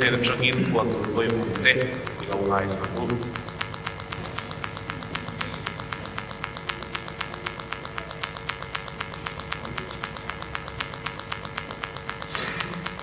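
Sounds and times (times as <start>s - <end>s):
electrical hum: 0.0s - 13.0s
rapid clicking interference: 0.0s - 13.0s.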